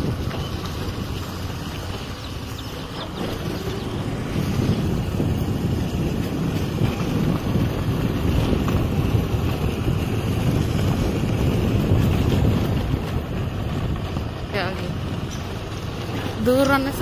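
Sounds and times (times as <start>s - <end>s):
vehicle running noise: 0.0s - 17.0s
wind buffeting microphone: 0.0s - 17.0s.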